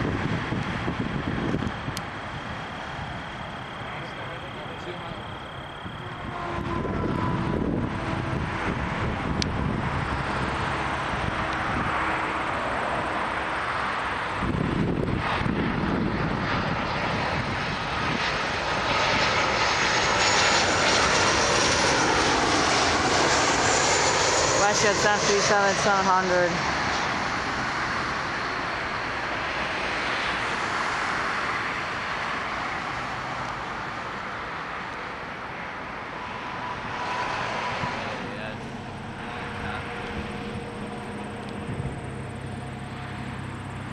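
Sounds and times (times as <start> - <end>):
jet engines passing close: 0.0 - 43.9.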